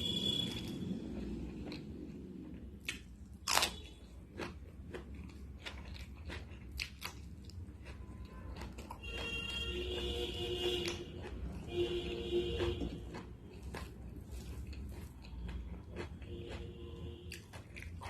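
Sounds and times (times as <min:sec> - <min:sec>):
crunchy chewing and biting: 0:00.0 - 0:18.0.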